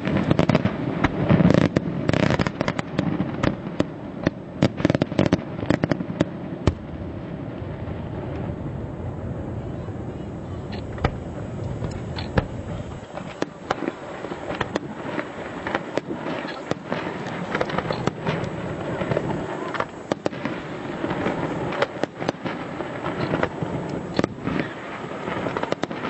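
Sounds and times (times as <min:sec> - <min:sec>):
fireworks bangs and pops: 0:00.0 - 0:09.6, 0:10.6 - 0:26.0
fireworks crackling: 0:00.0 - 0:26.0.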